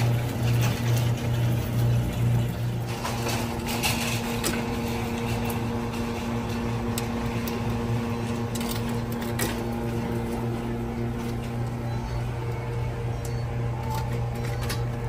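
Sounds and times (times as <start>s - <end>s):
vending machine electrical hum: 0.0s - 15.0s.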